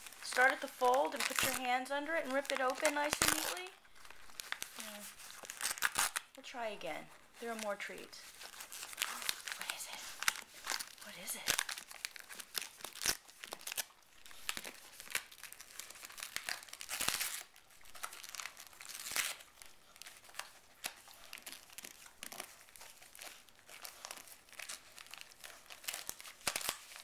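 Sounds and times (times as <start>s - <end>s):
foil crinkling: 0.0s - 6.4s, 7.1s - 27.0s
dog tearing foil gift wrap: 0.0s - 6.6s, 7.3s - 27.0s.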